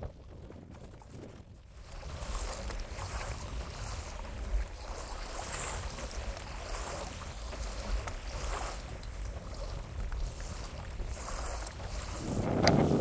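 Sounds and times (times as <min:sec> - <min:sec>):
water splashing around a kayak: 0:00.0 - 0:13.0
wind rumbling on microphone: 0:00.0 - 0:13.0.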